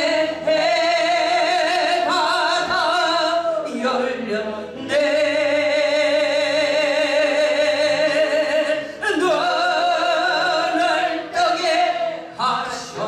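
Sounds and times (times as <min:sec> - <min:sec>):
worship song accompaniment: 0:00.0 - 0:13.0.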